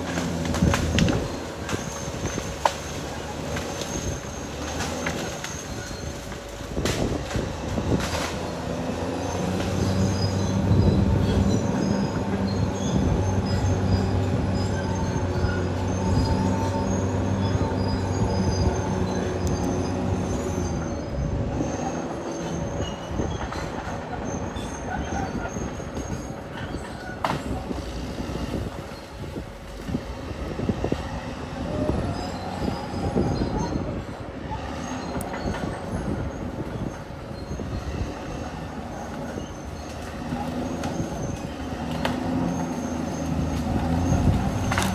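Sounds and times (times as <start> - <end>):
bulldozer diesel engine droning: 0.0 - 44.9
steel tracks squealing and clanking: 0.0 - 44.9.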